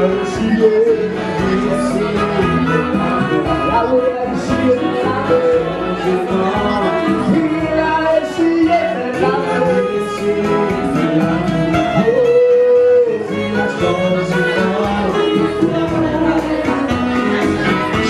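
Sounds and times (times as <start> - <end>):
instrumental backing: 0.0 - 18.0
person singing gospel: 0.0 - 18.0.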